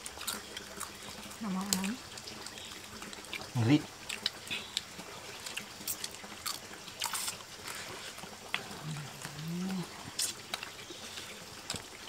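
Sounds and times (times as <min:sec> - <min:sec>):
people chewing and crunching: 0:00.0 - 0:12.0.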